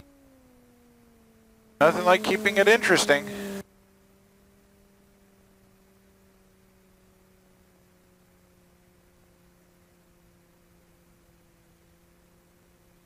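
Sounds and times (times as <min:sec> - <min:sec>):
faint low hum: 0:00.0 - 0:13.0
faint hiss: 0:01.9 - 0:13.0.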